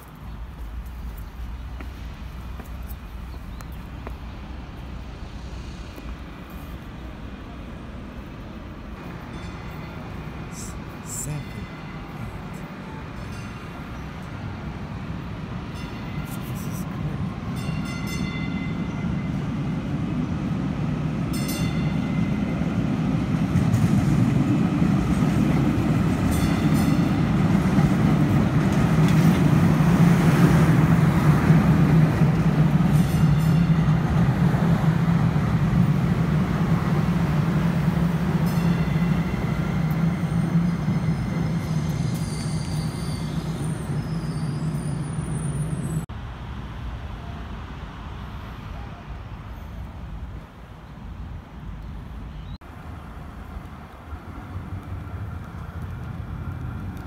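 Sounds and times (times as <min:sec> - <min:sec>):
light rail train passing: 0:00.0 - 0:57.0.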